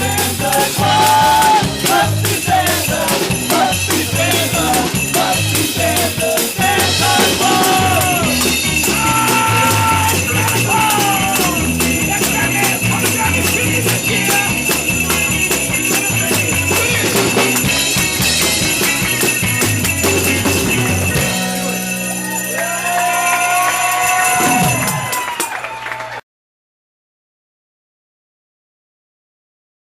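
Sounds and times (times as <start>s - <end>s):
sleigh bells jingling in rhythm: 0.0s - 25.5s
live band playing upbeat song: 0.0s - 25.6s.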